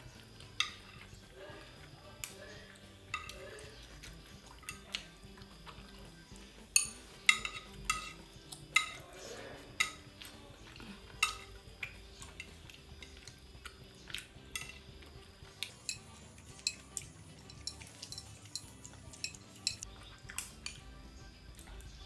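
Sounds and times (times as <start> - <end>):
metal utensils clinking on bowl: 0.0 - 21.0.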